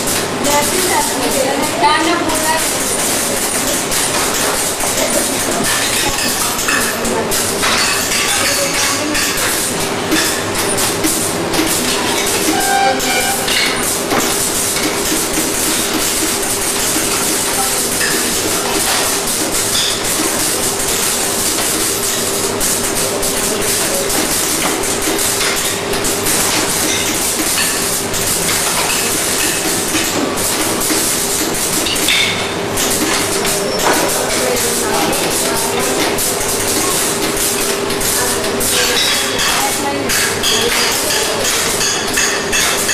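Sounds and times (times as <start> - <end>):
workshop machinery running: 0.0 - 42.9.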